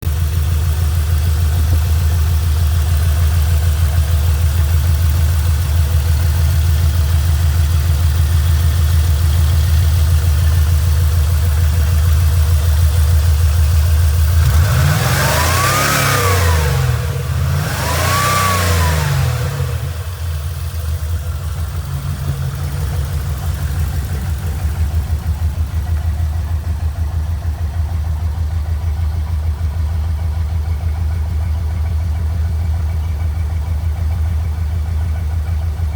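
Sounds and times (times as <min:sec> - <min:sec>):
engine idling and revving: 0:00.0 - 0:35.9.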